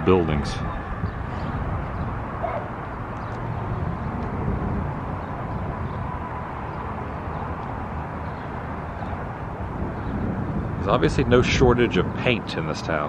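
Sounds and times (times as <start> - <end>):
street ambience rumble: 0.0 - 13.0.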